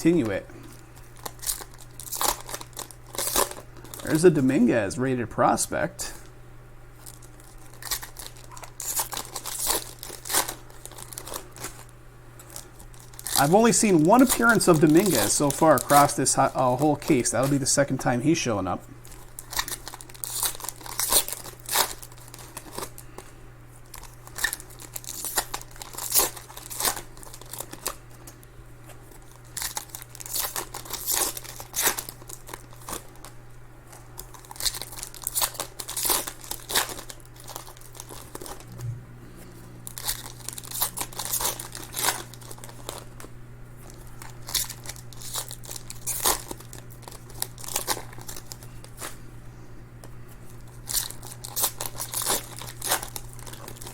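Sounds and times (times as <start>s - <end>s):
card wrappers tearing and crinkling: 0.0s - 4.7s, 7.0s - 38.8s, 39.8s - 49.3s, 50.4s - 53.9s
steady low hum: 0.0s - 53.9s.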